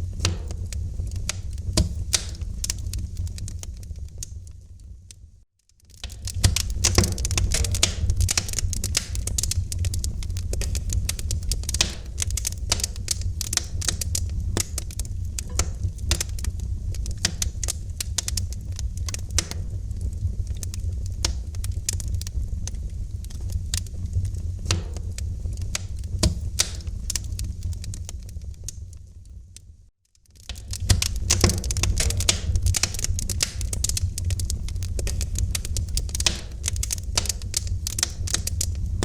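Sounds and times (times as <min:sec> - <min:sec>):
low rumble of flames: 0:00.0 - 0:39.0
wood fire crackling: 0:00.0 - 0:39.0.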